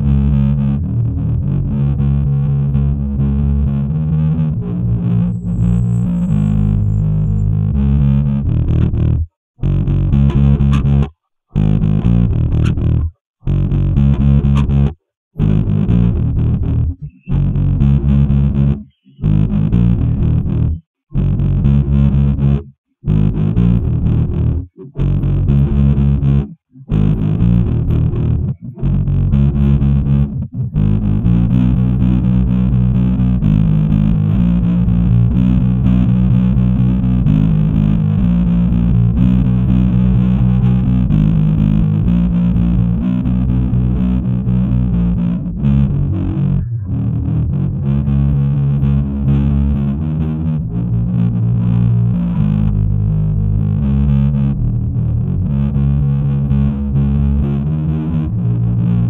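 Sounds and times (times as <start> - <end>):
bass guitar: 0.0 - 59.0
distorted electric guitar riff: 0.0 - 59.0.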